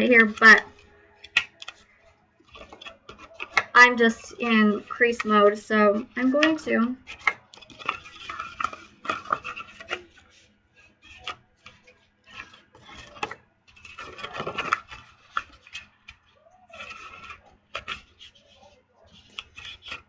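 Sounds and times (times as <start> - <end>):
paper rustling and clicking: 0.0 - 3.8, 6.4 - 20.0
bone folder scraping paper: 0.0 - 20.0.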